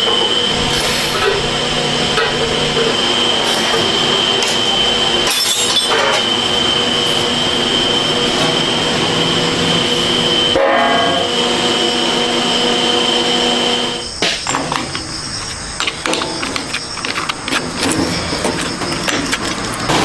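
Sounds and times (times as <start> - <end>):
machine whine over hum: 0.0 - 19.2.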